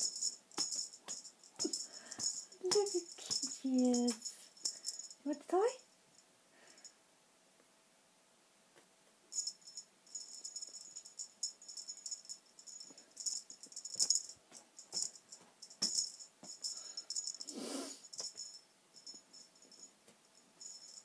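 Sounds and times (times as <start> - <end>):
jingle bell rattling: 0.0 - 6.9, 9.3 - 21.0.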